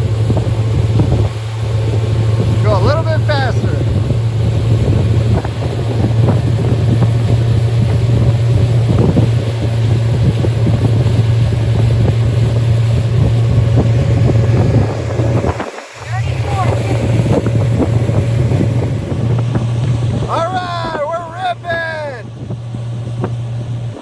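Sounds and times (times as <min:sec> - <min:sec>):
outboard motor droning: 0:00.0 - 0:24.0
wind buffeting microphone: 0:00.0 - 0:24.0.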